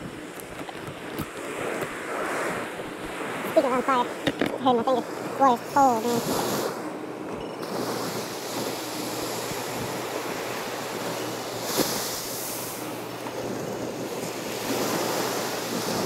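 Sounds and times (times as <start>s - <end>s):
surf washing onto beach: 0.0s - 7.0s, 7.6s - 16.0s
wind buffeting microphone: 0.0s - 16.0s.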